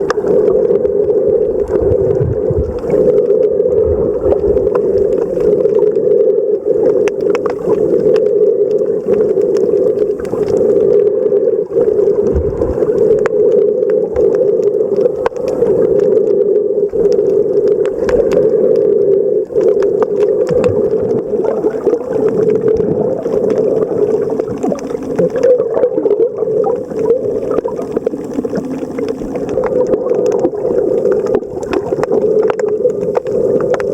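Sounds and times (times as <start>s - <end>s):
sharp underwater clicks: 0.0s - 11.0s, 11.6s - 33.9s
muffled underwater water hum: 0.0s - 33.9s.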